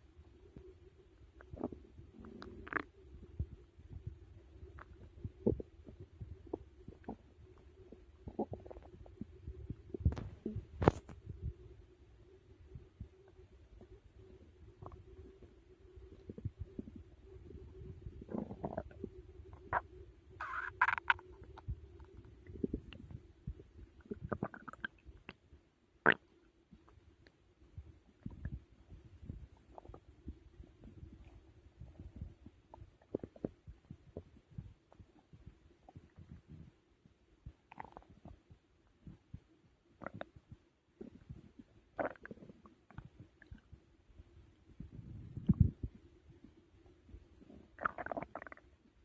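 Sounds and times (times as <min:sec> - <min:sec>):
faint steady hum: 0:00.0 - 0:49.0
stomach growling and gurgling: 0:00.0 - 0:49.0.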